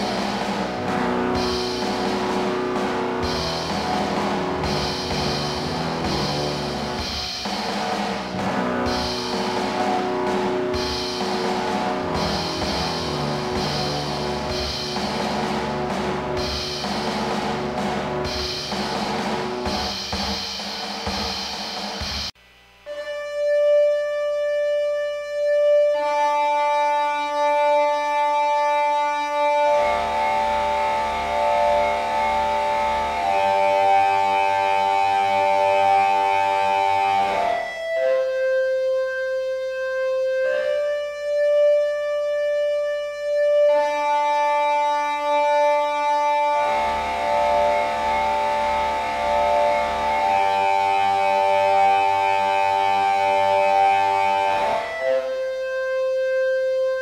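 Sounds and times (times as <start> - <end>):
buzzy synthesizer music: 0.0 - 57.0.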